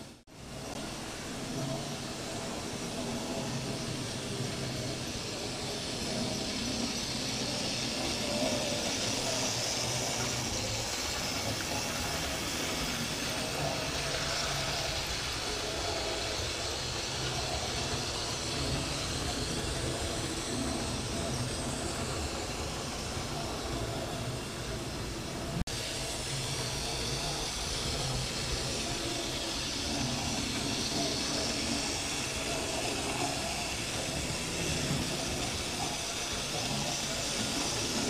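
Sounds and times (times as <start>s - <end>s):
model train running on track: 0.0s - 38.0s.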